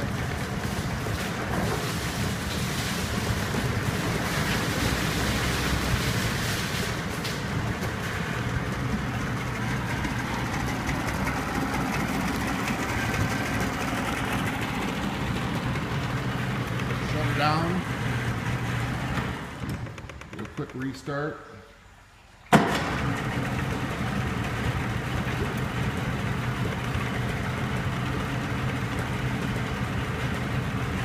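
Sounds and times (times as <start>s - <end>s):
outboard motor running: 0.0s - 21.2s, 22.6s - 31.0s.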